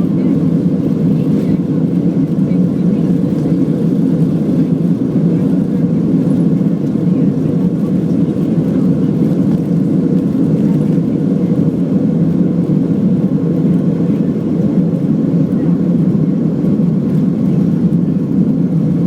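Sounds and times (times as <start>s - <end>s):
jet engines during takeoff: 0.0s - 19.0s.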